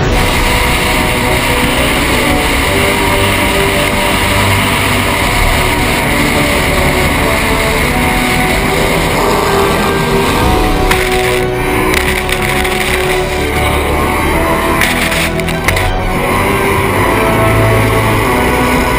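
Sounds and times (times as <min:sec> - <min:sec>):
powerboat engine at full throttle: 0:00.0 - 0:18.9.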